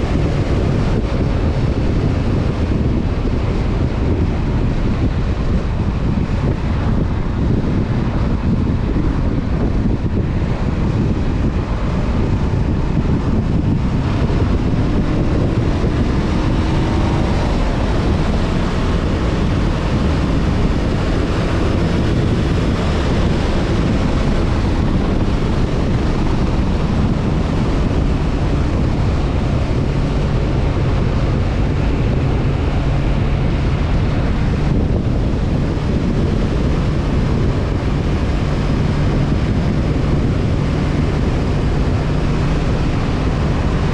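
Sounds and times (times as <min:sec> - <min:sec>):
motorcycle engine running: 0:00.0 - 0:43.9
wind rushing over microphone: 0:00.0 - 0:43.9.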